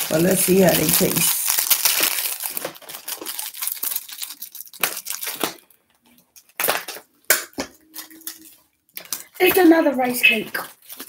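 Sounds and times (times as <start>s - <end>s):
rice crackers crunching: 0.0s - 9.4s.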